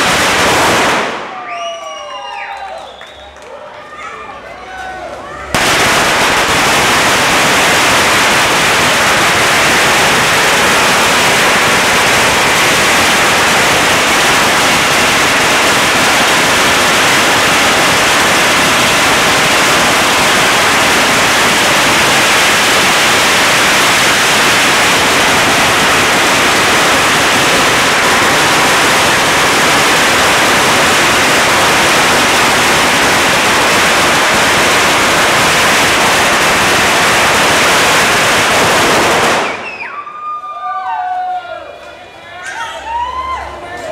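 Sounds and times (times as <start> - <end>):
firecrackers crackling: 0.0 - 3.6, 4.8 - 40.2.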